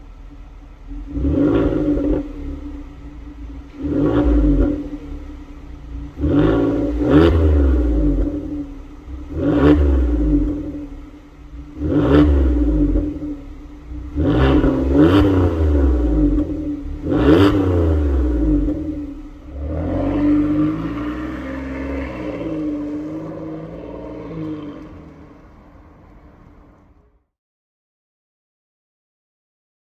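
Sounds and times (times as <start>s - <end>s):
car engine revving: 0.0s - 27.1s
car engine idling: 0.0s - 27.2s.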